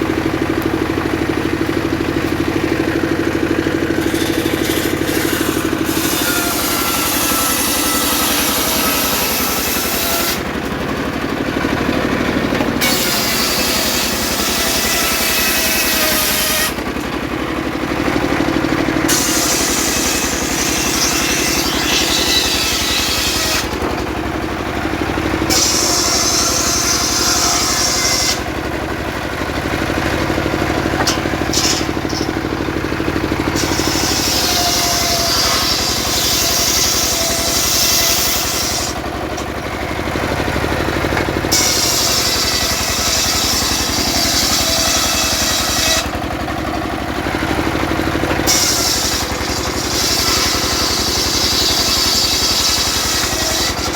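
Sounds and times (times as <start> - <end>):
circular saw engine running: 0.0 - 53.9
saw blade cutting logs: 0.0 - 53.9.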